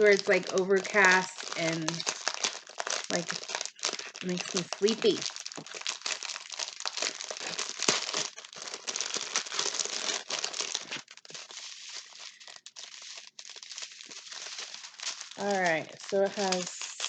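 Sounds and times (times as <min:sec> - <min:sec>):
plastic baggies crinkling: 0:00.0 - 0:17.0.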